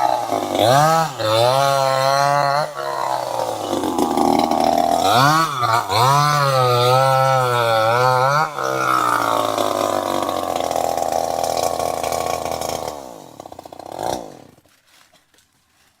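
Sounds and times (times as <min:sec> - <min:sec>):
chainsaw engine winding down: 0:00.0 - 0:14.7.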